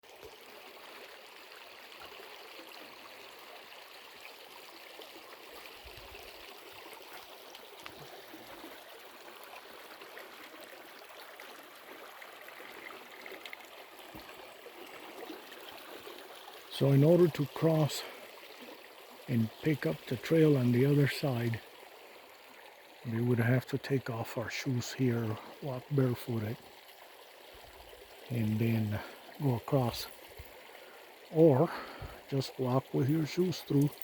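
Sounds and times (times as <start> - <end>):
stream rushing over rocks: 4.3 - 26.6, 27.2 - 34.0.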